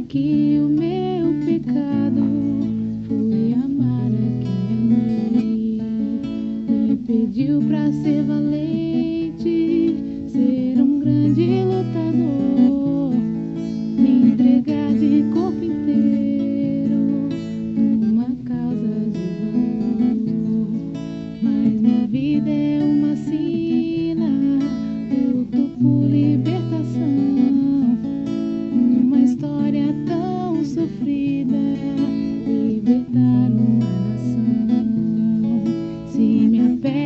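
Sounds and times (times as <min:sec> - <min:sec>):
acoustic guitar plucked and strummed: 0:00.0 - 0:37.0.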